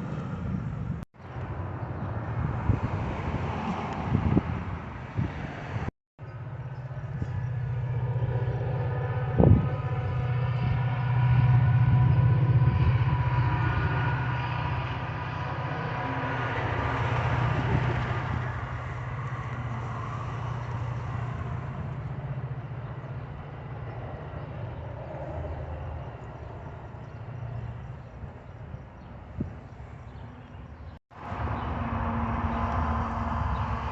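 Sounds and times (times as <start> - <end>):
train engine rumble: 6.3 - 33.9.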